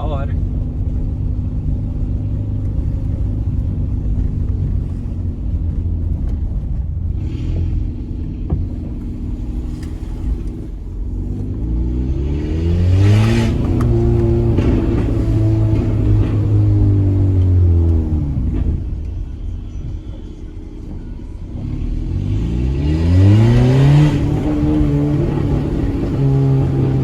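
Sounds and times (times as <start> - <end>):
car engine rumbling and accelerating: 0.0 - 27.0.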